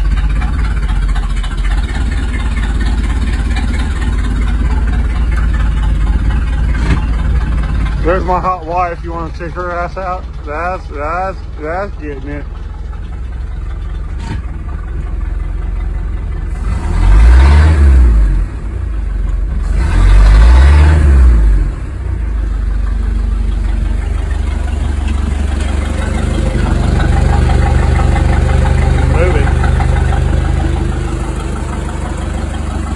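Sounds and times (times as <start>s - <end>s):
boat engine revving and idling: 0.0s - 32.9s.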